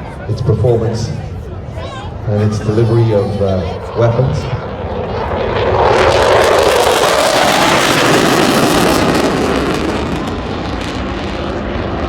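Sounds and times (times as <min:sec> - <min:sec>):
jet passing with crackling roar: 0:00.0 - 0:12.0.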